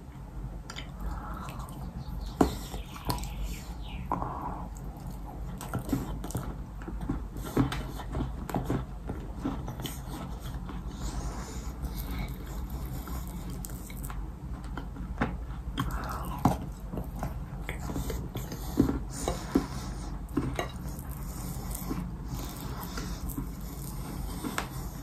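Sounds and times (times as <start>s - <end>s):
soft squishing of paste: 0.1s - 25.0s
clay cookie crunching: 0.7s - 25.0s.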